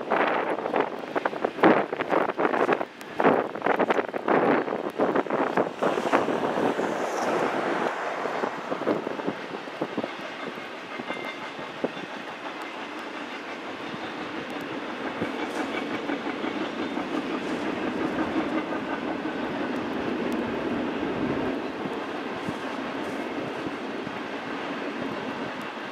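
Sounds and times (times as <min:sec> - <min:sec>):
clicks of train wheels: 0:00.0 - 0:25.9
train wheels rumbling on rail: 0:00.0 - 0:25.9.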